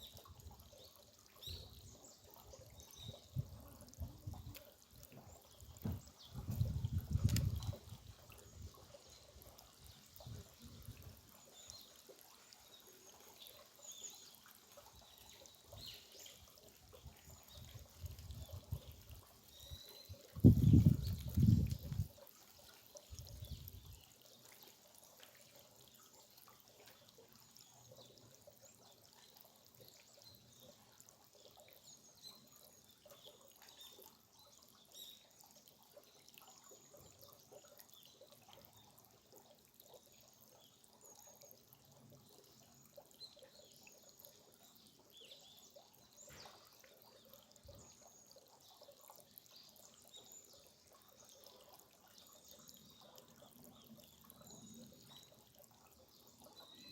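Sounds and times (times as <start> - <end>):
stream trickling and dripping: 0.0 - 56.9.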